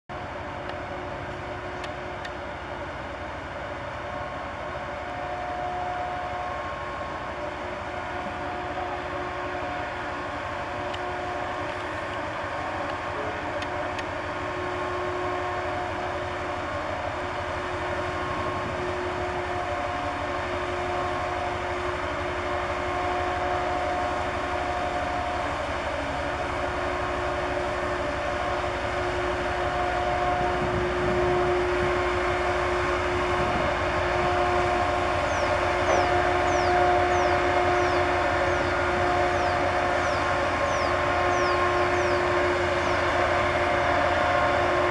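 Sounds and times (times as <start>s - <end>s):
ship engines droning: 0.1s - 44.9s.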